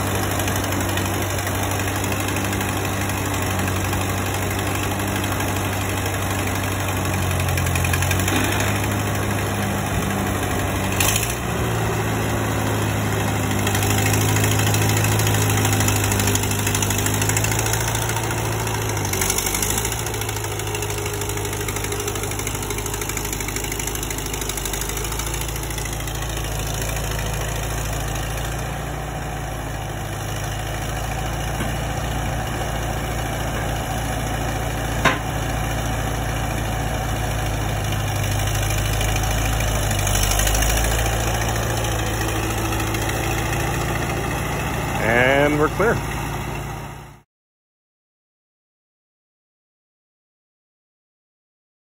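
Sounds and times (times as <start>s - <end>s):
tractor engine running: 0.0s - 47.2s.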